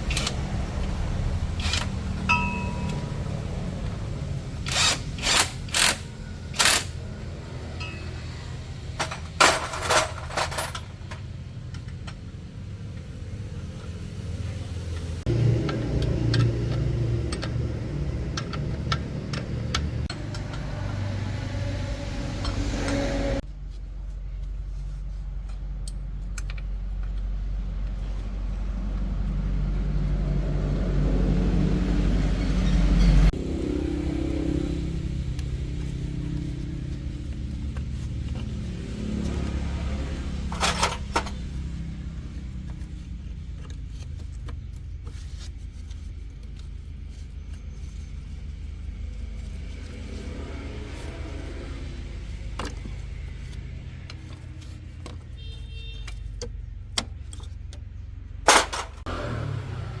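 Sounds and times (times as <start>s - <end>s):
truck engine droning: 0.0s - 23.4s, 27.1s - 45.4s, 46.2s - 60.0s.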